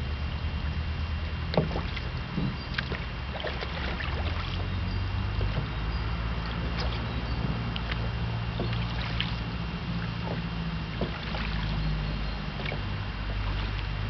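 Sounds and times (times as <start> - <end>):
boat motor hum: 0.0 - 14.0
water knocks and splashes: 1.5 - 14.0.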